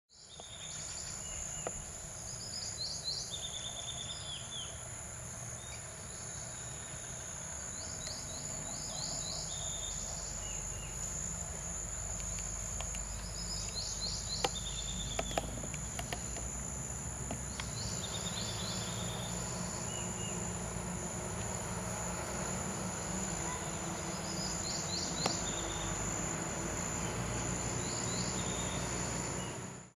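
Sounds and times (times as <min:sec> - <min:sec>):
insects trilling: 0:00.2 - 0:29.9
quick insect chirps: 0:00.2 - 0:29.9.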